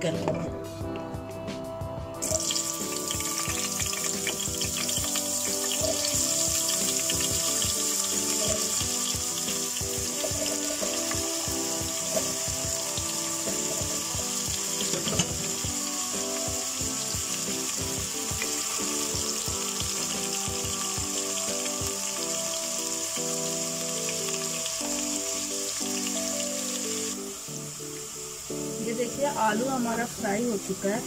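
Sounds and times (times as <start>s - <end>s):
background music with beat: 0.0s - 28.9s
potatoes sizzling in oil: 2.2s - 31.0s.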